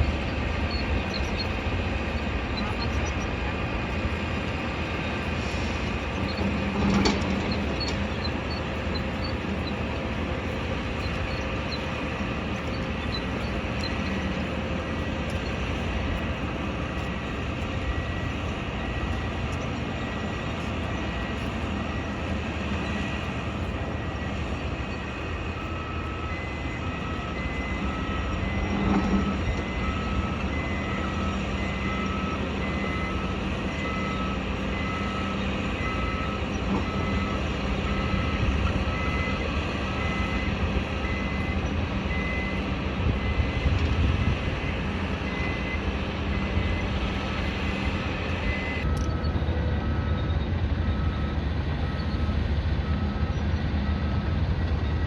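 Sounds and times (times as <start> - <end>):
reversing alarm beeping: 0.0 - 55.0
rumble of machinery and traffic: 0.0 - 55.0.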